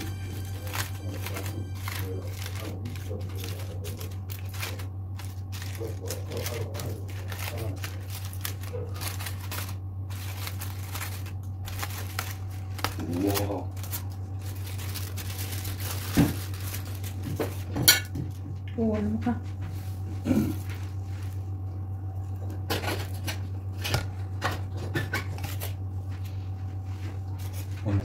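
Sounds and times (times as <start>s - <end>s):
aluminium foil crinkling: 0.0s - 18.4s, 20.4s - 27.9s
steady low hum: 0.0s - 28.0s.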